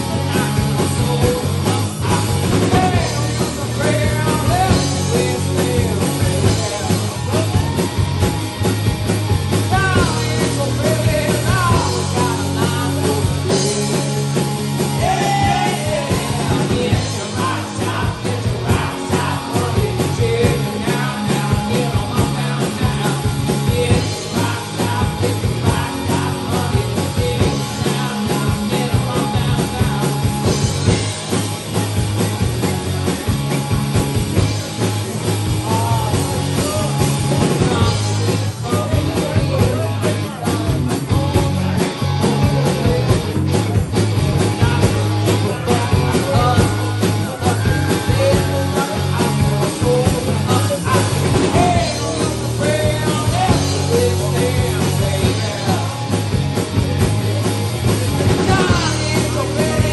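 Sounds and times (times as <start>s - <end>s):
lead singer singing: 0.0s - 7.9s, 9.5s - 31.9s, 34.4s - 59.9s
bass guitar: 0.0s - 59.9s
drum kit: 0.0s - 59.9s
electric guitars: 0.0s - 59.9s.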